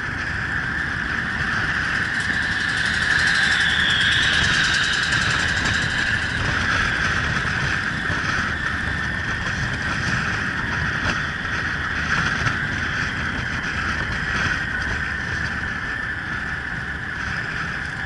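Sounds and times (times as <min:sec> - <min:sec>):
motorcycle engine rumble: 0:00.0 - 0:18.0
wind rushing on microphone: 0:00.0 - 0:18.0.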